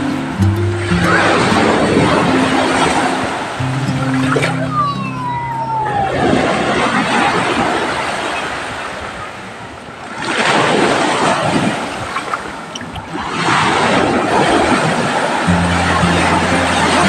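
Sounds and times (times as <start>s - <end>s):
sea waves breaking ashore: 0.0s - 17.0s.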